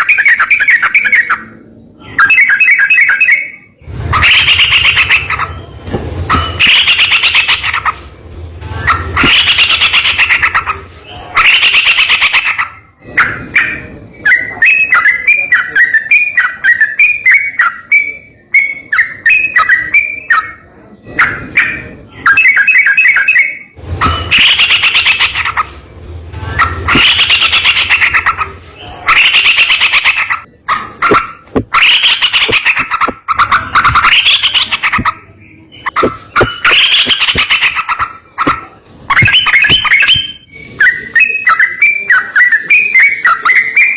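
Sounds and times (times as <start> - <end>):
bird chattering notes: 0.0 - 8.0, 8.8 - 25.8, 26.6 - 43.9
bird singing bubbling phrases: 0.0 - 8.0, 8.8 - 25.6, 26.6 - 43.9.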